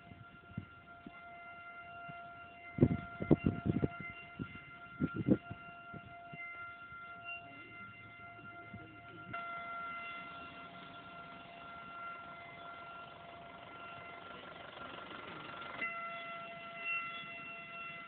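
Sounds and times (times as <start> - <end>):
steady alarm siren: 0.0 - 18.0.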